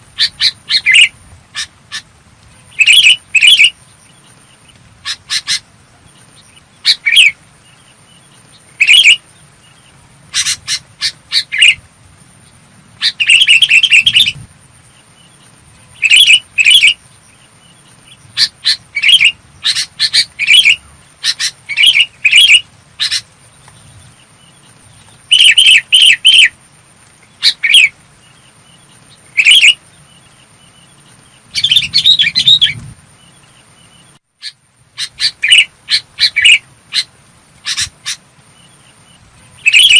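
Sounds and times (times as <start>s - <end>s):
bulbul calling: 0.0s - 26.6s, 27.3s - 39.9s.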